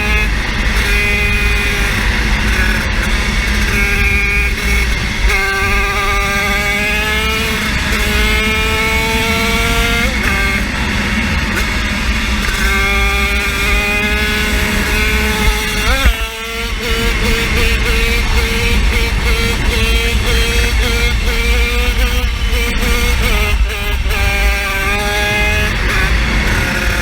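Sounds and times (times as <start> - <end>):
small engine revving high: 0.0 - 27.0.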